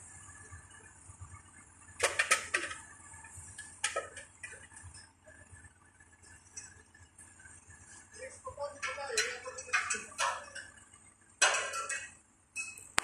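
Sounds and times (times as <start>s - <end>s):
faint steady background hum: 0.0s - 13.0s.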